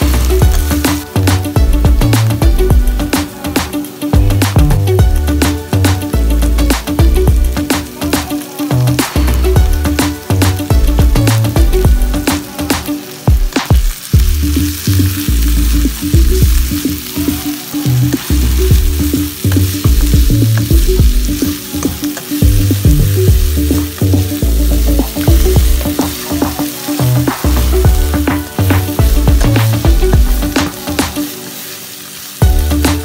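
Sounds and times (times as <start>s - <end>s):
background music with bass beat: 0.0s - 31.4s, 32.4s - 33.0s
vegetables sizzling in hot oil: 0.0s - 33.0s.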